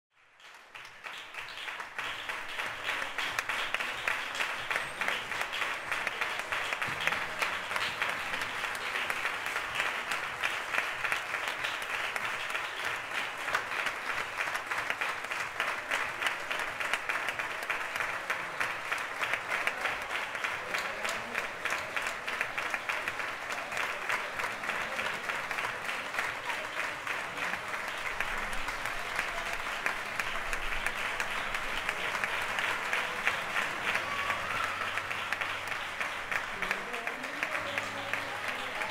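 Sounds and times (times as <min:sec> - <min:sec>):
crowd applauding: 0:00.1 - 0:38.9.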